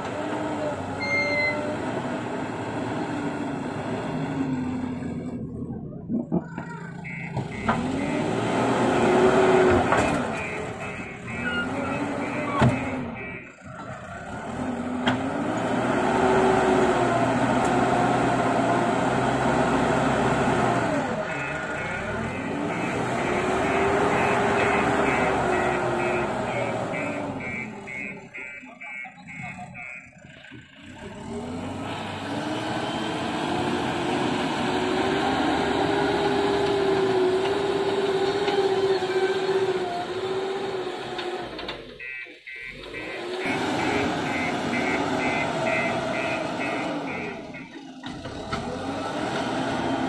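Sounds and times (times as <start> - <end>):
diesel engine working under load: 0.0 - 50.0.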